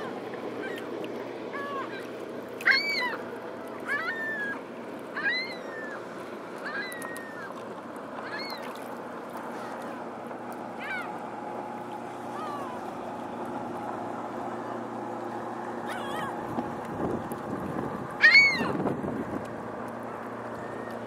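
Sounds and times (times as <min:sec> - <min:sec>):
ship engines droning: 0:00.0 - 0:21.0.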